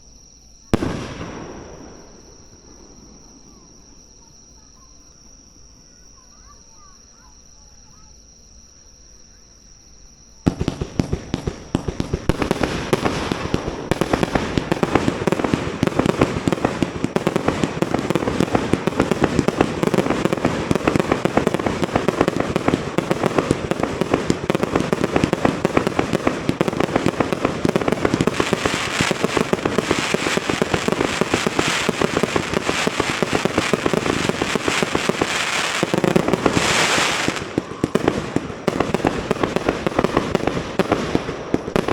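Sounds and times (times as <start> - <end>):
insects chirring: 0.0 - 41.9
fireworks bangs and crackling: 0.6 - 4.3, 10.4 - 41.9.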